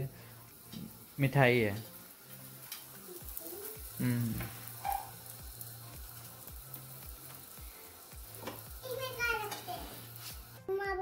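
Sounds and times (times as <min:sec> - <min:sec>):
flatbread sizzling in a pan: 0:00.0 - 0:11.0.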